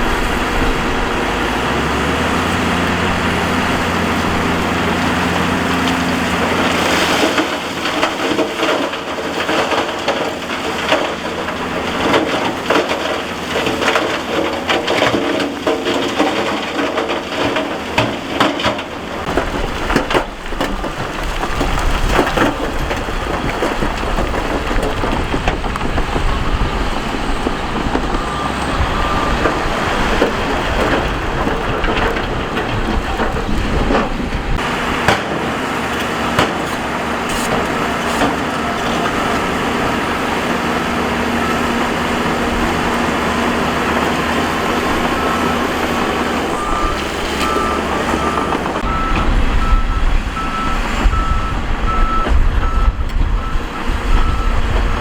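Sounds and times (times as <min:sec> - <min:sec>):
diesel engine running: 0:00.0 - 0:55.0
gravel crunching and clattering: 0:00.0 - 0:55.0.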